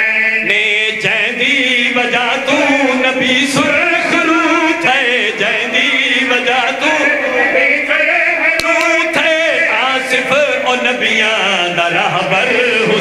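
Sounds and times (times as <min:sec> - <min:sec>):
men singing through microphones: 0:00.0 - 0:13.0.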